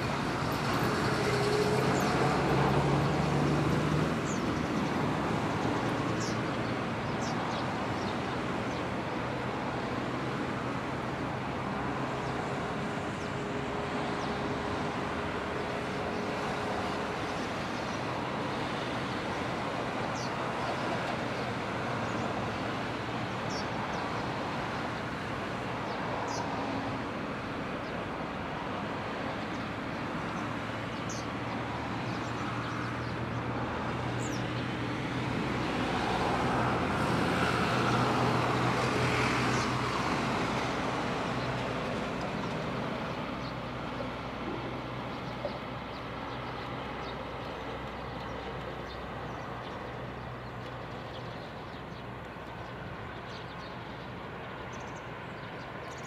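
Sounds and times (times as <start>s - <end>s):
road traffic going by: 0.0s - 56.0s.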